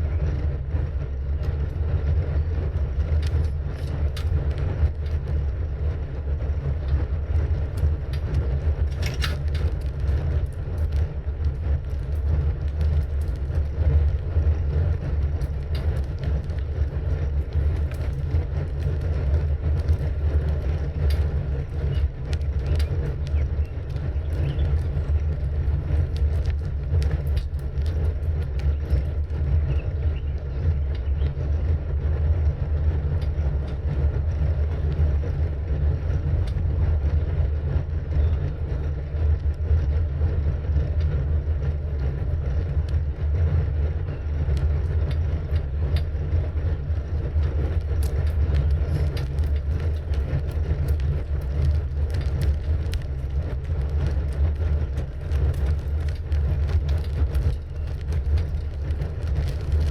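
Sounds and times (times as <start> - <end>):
bicycle ticks and rattles: 0.0 - 59.9
wind rumble on microphone: 0.0 - 59.9.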